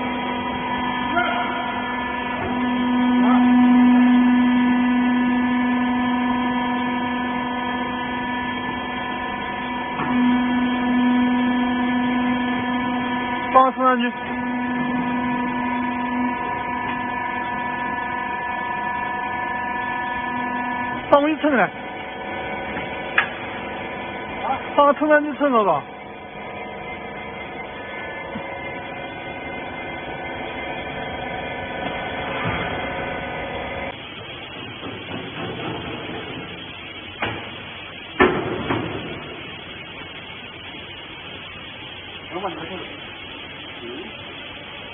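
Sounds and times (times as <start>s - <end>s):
baler motor and pump humming: 0.0s - 44.9s.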